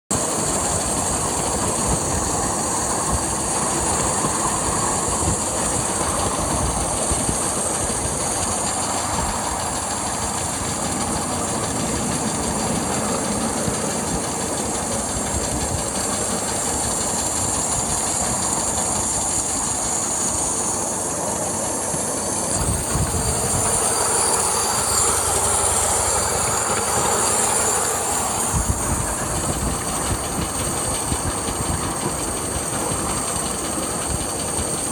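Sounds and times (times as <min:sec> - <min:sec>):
steam hiss: 0:00.1 - 0:34.9
steam locomotive running and exhaust: 0:00.1 - 0:34.9.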